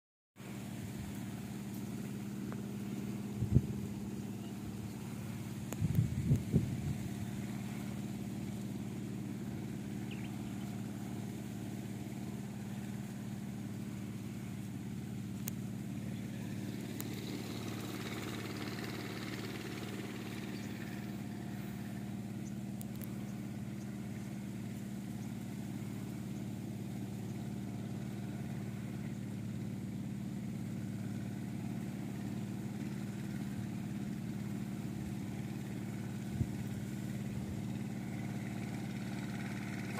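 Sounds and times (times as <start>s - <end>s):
engine idling hum: 0.4s - 39.9s.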